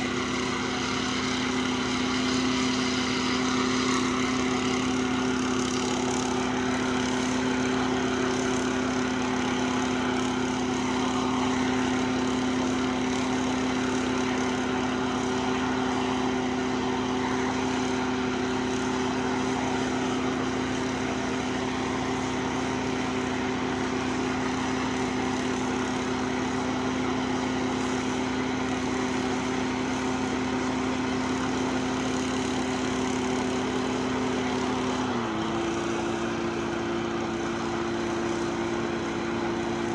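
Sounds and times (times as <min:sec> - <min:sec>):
portable engine humming steadily: 0:00.0 - 0:39.9.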